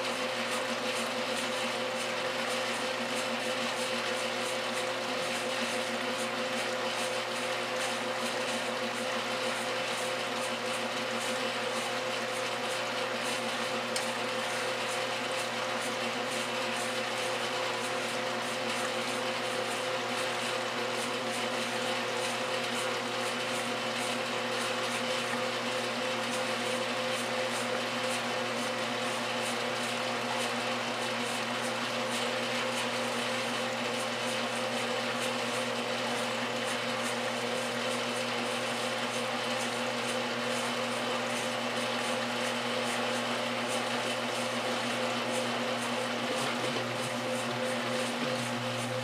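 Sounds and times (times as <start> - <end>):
washing machine motor humming: 0.0 - 49.0.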